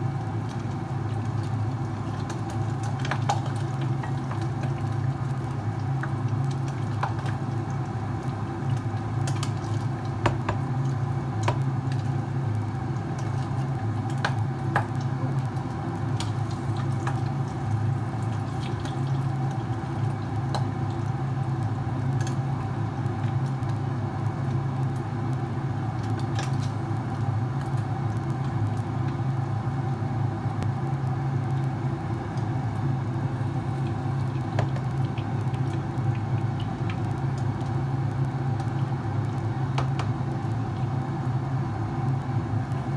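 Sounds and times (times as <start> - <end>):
low mechanical hum: 0.0 - 42.9
squid frying in hot oil: 0.0 - 42.9.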